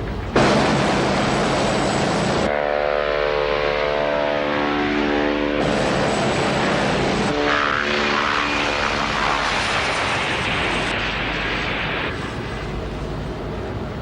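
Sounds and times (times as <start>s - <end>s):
helicopter in flight: 0.0s - 14.0s.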